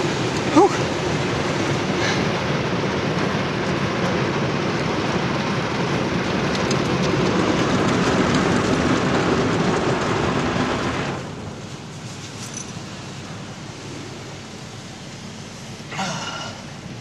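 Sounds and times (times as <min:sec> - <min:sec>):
car wash water spraying: 0:00.0 - 0:17.0.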